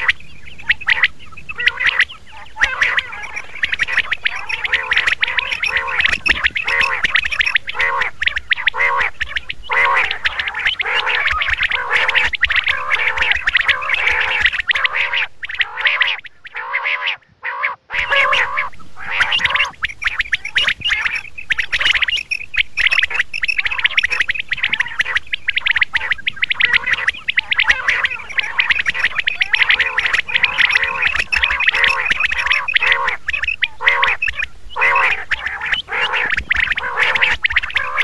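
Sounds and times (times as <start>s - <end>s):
quail calling: 0.0s - 38.0s.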